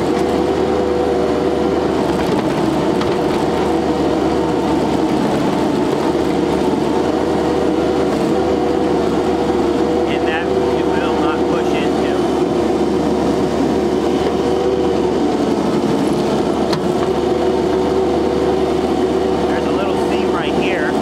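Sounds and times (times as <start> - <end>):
compact loader engine humming: 0.0 - 21.0.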